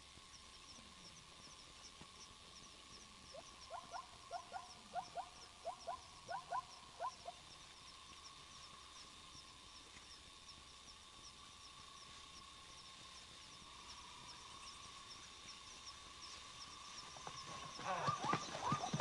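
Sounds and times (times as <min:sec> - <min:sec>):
faint high ticks: 0:00.1 - 0:19.0.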